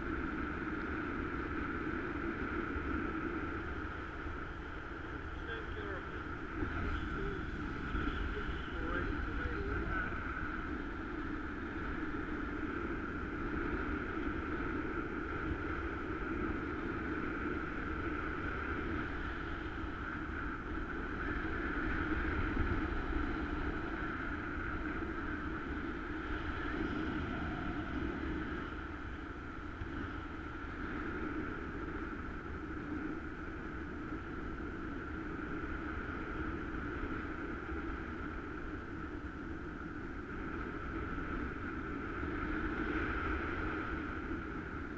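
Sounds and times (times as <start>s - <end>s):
wind rushing over camera: 0.0s - 44.9s.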